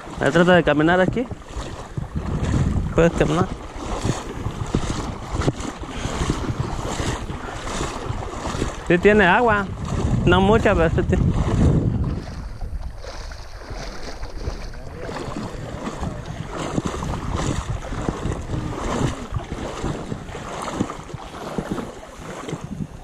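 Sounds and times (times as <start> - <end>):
water sloshing and splashing: 0.0 - 23.0
wind buffeting microphone: 0.0 - 23.0.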